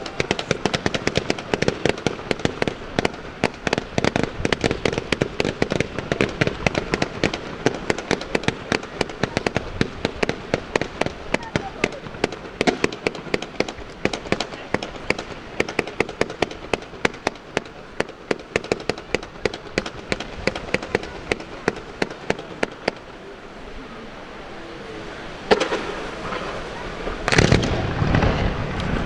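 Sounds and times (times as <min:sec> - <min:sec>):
fireworks cracks and bangs: 0:00.0 - 0:24.2, 0:24.9 - 0:29.0.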